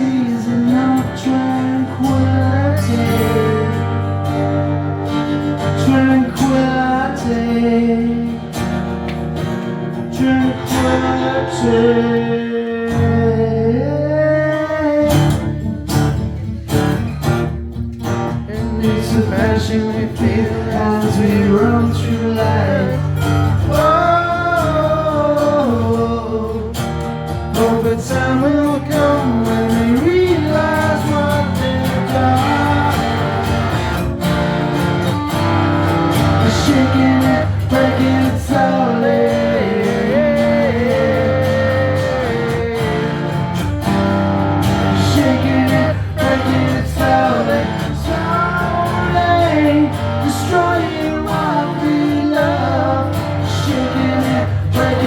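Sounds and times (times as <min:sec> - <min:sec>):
man singing: 0:00.0 - 0:04.2, 0:05.6 - 0:08.8, 0:10.0 - 0:15.9, 0:18.4 - 0:34.0, 0:35.8 - 0:43.9, 0:44.6 - 0:55.0
acoustic guitar: 0:00.0 - 0:55.0
bass: 0:00.0 - 0:55.0.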